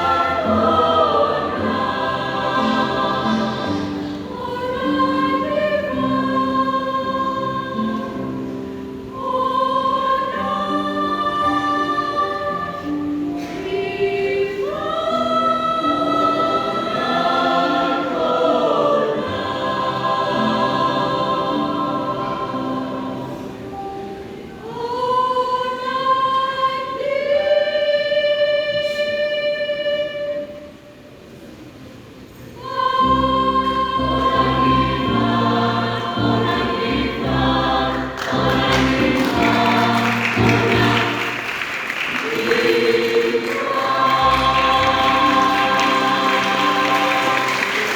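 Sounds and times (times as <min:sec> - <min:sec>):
choir singing: 0:00.0 - 0:31.5, 0:32.4 - 0:47.9.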